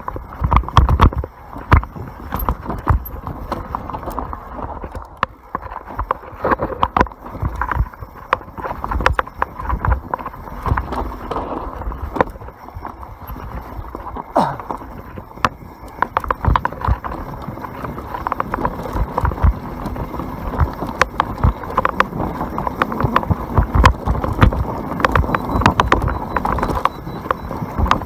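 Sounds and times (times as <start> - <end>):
bike knocks and rattles: 0.0 - 28.0
bike tyres rumbling on dirt: 0.0 - 28.0.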